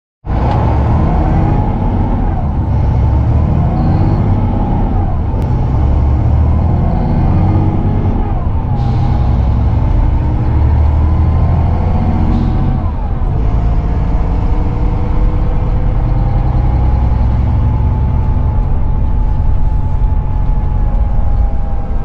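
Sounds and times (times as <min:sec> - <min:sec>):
coach diesel engine rumble: 0:00.2 - 0:22.0
road noise: 0:00.2 - 0:22.0.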